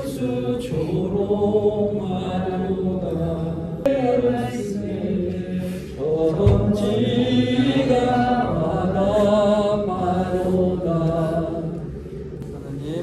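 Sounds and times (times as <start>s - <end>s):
voices singing a hymn: 0.0s - 13.0s.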